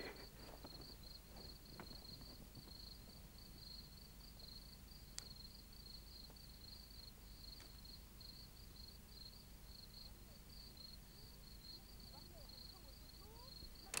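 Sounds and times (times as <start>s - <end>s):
faint crickets chirping: 0.0s - 14.0s.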